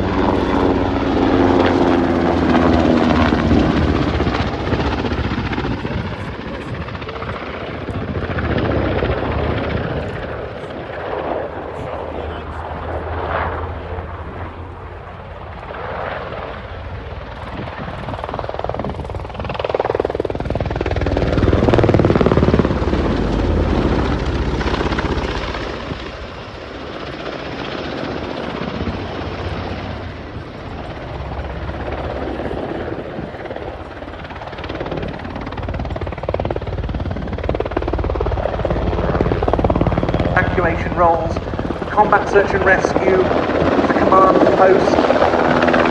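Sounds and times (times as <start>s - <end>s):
helicopter rotor and turbine: 0.0s - 45.9s.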